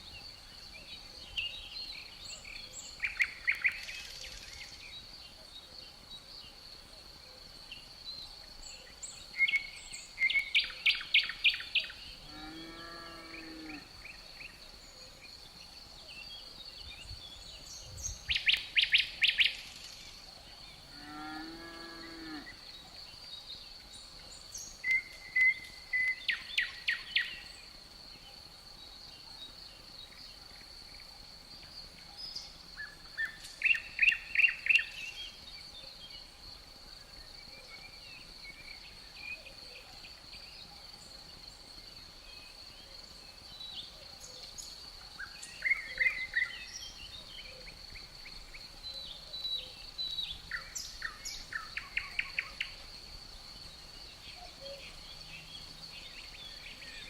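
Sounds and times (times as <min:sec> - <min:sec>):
insect trill: 0:00.0 - 0:57.0
songbird singing: 0:00.0 - 0:57.0.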